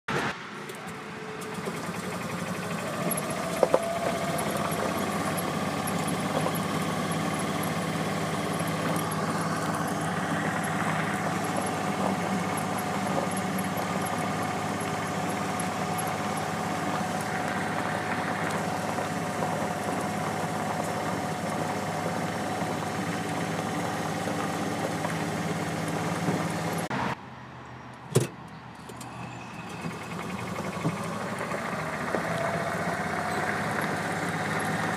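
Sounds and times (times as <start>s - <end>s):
vehicle engine humming: 0.0s - 34.9s.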